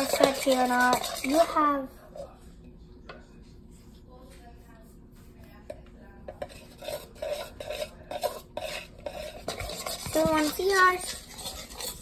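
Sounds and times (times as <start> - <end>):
utensil stirring slime in bowl: 0.0 - 12.0.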